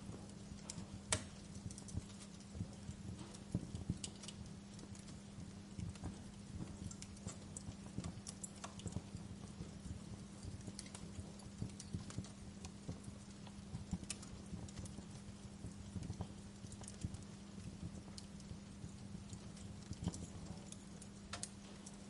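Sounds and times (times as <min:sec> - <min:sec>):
low steady hum: 0:00.0 - 0:22.0
wood fire crackling: 0:00.0 - 0:22.0.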